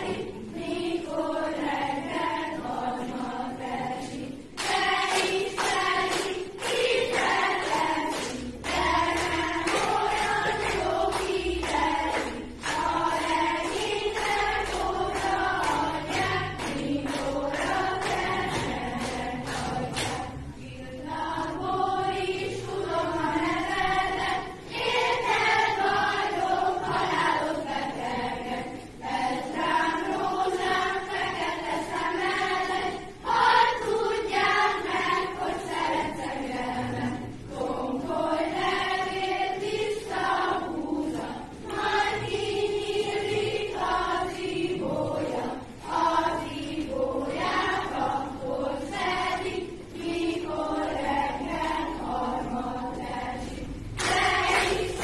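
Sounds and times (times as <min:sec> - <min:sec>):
group singing together: 0:00.0 - 0:55.0.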